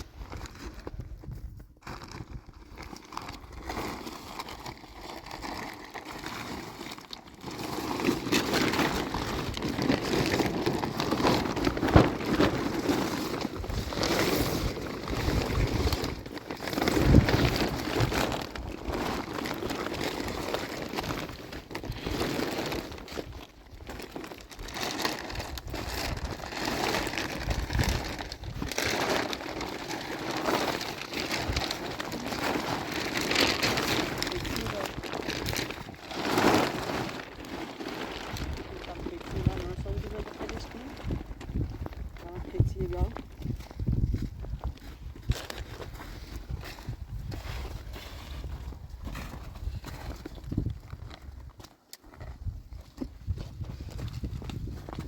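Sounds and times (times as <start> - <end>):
plastic sheeting rustling: 0.0 - 51.2.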